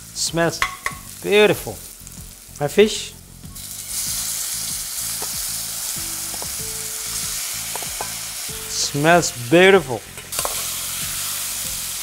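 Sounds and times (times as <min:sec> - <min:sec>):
fish sizzling in a frying pan: 0:00.0 - 0:12.0.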